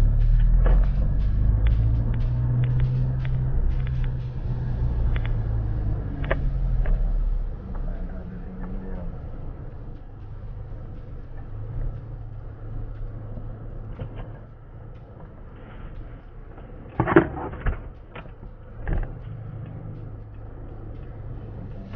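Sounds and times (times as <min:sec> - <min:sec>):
vehicle engine humming: 0:00.0 - 0:21.9.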